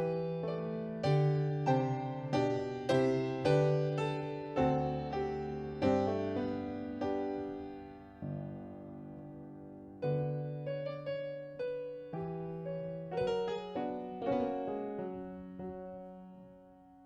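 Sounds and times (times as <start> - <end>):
slow gentle piano piece: 0.0 - 17.0.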